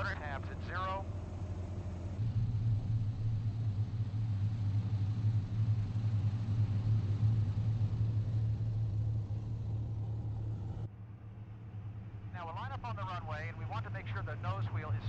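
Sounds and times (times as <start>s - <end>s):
aircraft engines taxiing: 0.0s - 15.0s.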